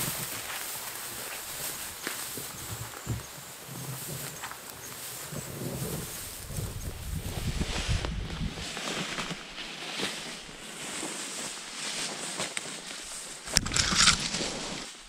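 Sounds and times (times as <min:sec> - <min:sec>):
footsteps: 0:00.0 - 0:15.0
grass swishing against legs: 0:00.0 - 0:15.0.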